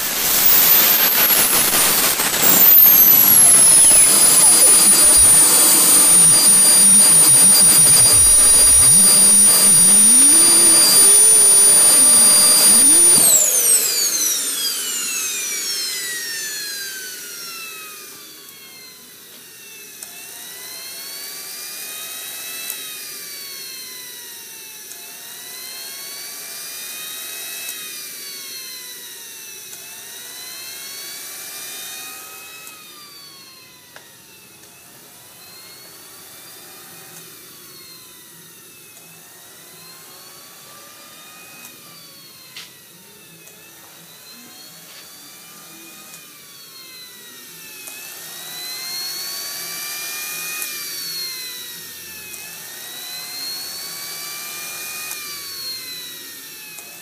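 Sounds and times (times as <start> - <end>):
jet turbine whine: 0.0 - 57.0.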